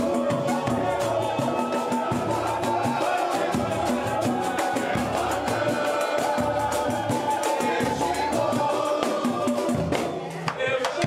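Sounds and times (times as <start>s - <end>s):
cuica: 0.0s - 11.0s
pandeiro: 0.0s - 11.0s
steady drum beat: 0.0s - 11.0s
voices singing together: 0.0s - 11.0s.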